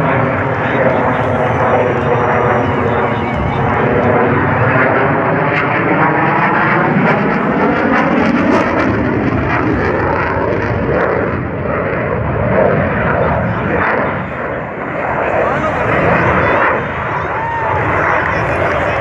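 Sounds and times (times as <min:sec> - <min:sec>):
jet engine passing overhead: 0:00.0 - 0:19.0.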